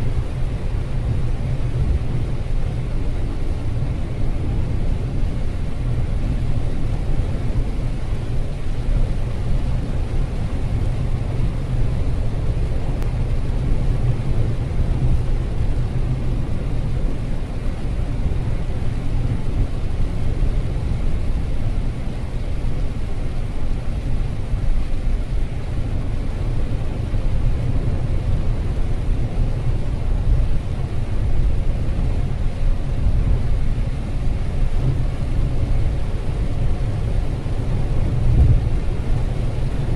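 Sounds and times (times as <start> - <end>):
rain hiss: 0.0 - 39.9
road and engine rumble: 0.0 - 39.9.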